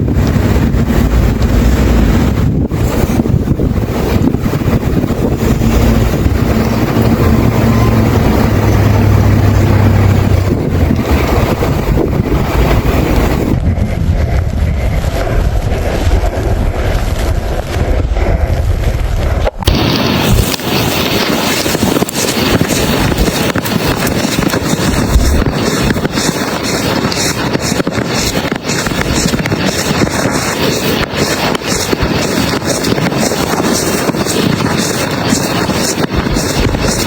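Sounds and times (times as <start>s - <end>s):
low steady hum: 0.0s - 37.0s
wind buffeting microphone: 0.0s - 37.0s.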